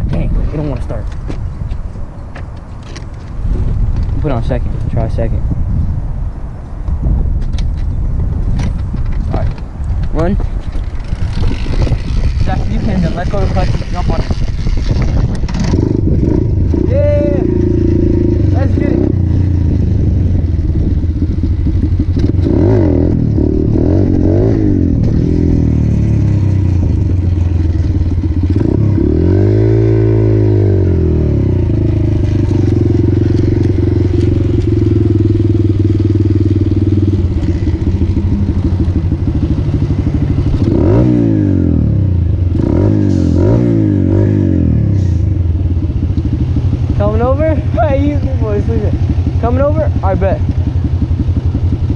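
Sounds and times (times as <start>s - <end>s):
motorcycle engine revving: 10.2s - 51.9s.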